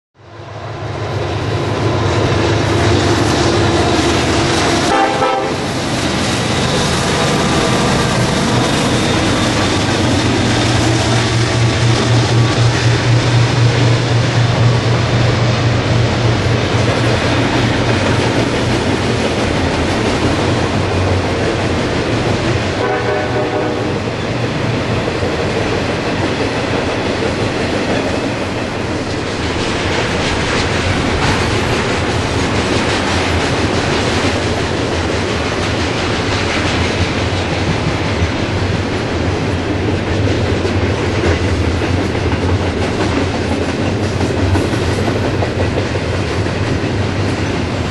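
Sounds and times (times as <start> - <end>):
diesel locomotive hum: 0.2 - 47.9
train wheels clickety-clack: 1.1 - 47.9.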